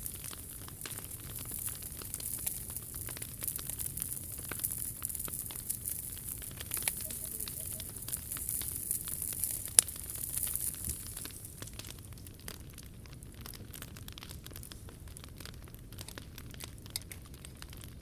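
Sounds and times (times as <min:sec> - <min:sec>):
fire pop: 0:00.0 - 0:18.0
wood fire hissing and crackling: 0:00.0 - 0:18.0.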